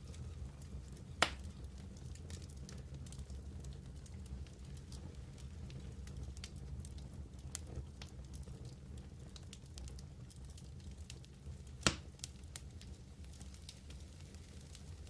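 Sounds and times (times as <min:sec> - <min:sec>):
fire crackles and snaps: 0:00.0 - 0:15.0
wood fire burning: 0:00.0 - 0:15.0.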